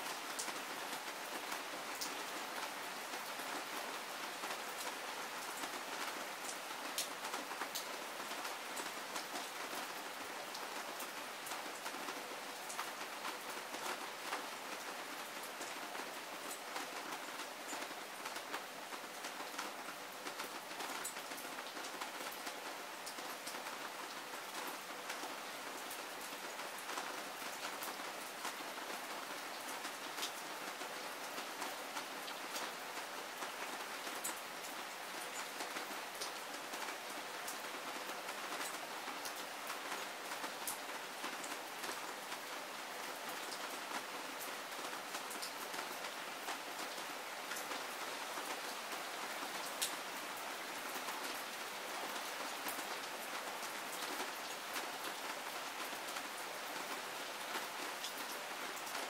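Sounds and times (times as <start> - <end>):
heavy rain: 0.0 - 59.0
raindrops ticking nearby: 0.0 - 59.0.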